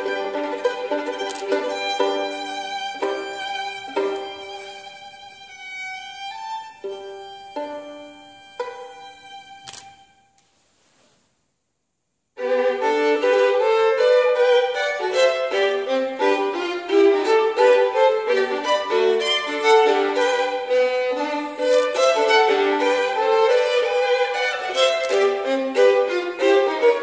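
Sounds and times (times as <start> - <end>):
solo violin playing: 0.0 - 10.3, 12.4 - 27.0.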